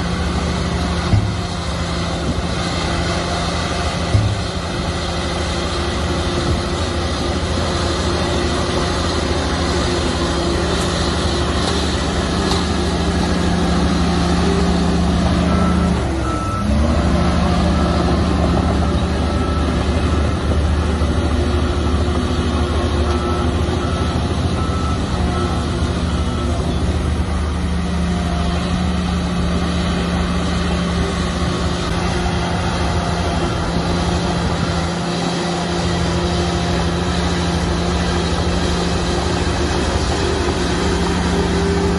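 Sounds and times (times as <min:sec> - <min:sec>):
heavy diesel engine running: 0:00.0 - 0:41.9
reversing alarm beeping: 0:00.1 - 0:41.9.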